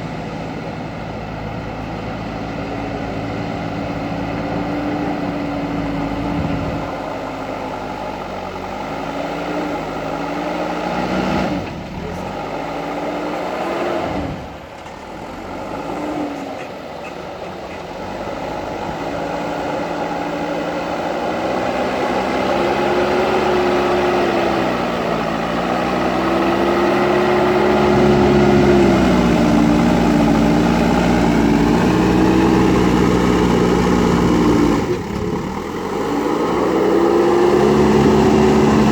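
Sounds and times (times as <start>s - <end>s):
diesel engine running hard: 0.0s - 38.9s.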